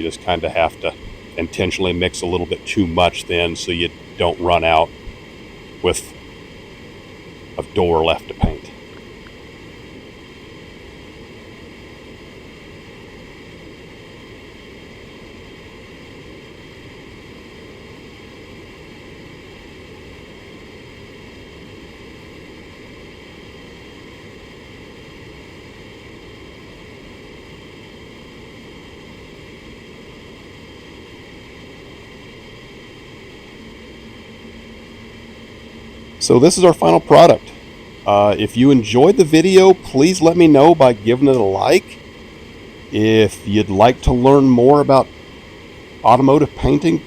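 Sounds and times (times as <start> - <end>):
faint low hum: 0.0 - 47.0
ventilation air rushing: 0.0 - 47.0.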